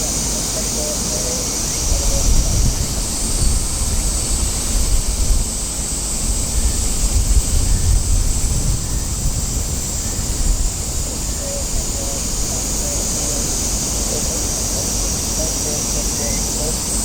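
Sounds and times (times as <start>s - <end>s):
high hiss: 0.0s - 17.0s
wind buffeting microphone: 0.0s - 17.0s.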